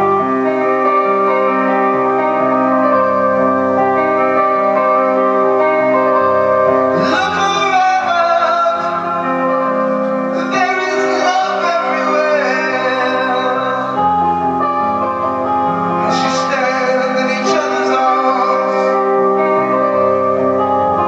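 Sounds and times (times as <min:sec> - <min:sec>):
keyboard and guitar chords: 0:00.0 - 0:21.0.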